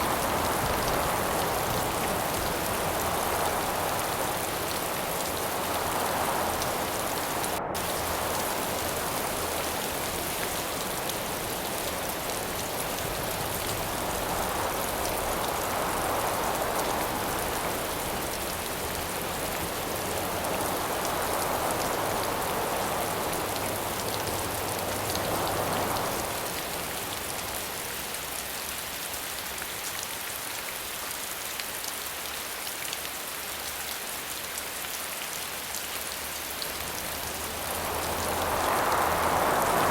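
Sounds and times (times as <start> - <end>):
wind gusts: 0.0 - 28.4, 36.0 - 39.9
steady rain falling: 0.0 - 39.9.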